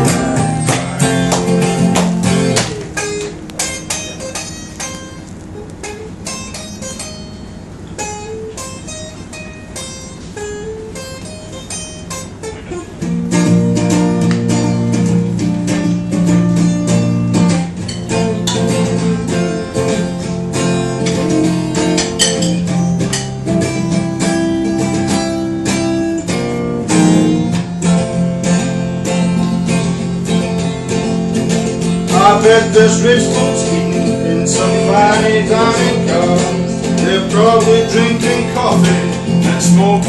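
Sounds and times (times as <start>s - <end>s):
electric guitar strumming: 0.0s - 40.0s.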